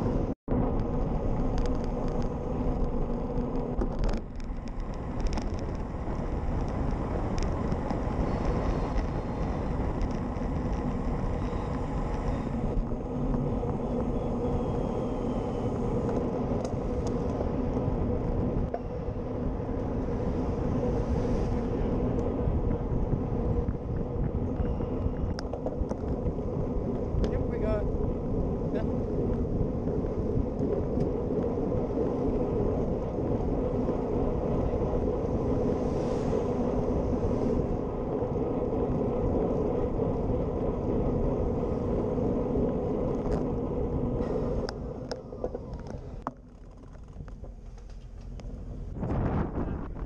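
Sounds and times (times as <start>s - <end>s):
tyres running on tarmac: 0.0s - 50.0s
wind on microphone: 0.0s - 50.0s.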